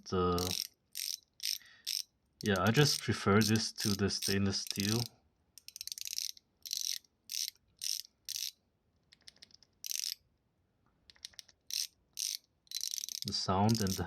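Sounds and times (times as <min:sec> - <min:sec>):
fidget slider clicking: 0:00.0 - 0:10.2, 0:11.1 - 0:14.0
faint rattle: 0:00.4 - 0:10.2, 0:11.0 - 0:14.0.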